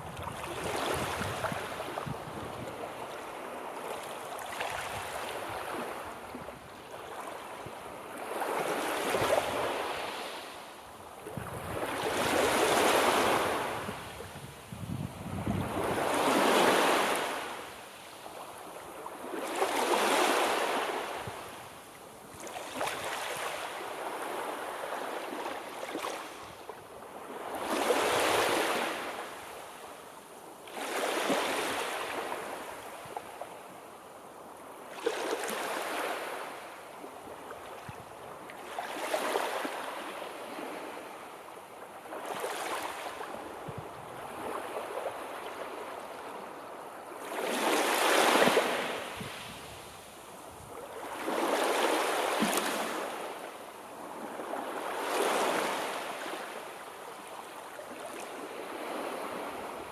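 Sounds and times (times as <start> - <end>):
sea waves surging and receding: 0.0 - 29.8, 30.6 - 33.6, 34.7 - 59.9.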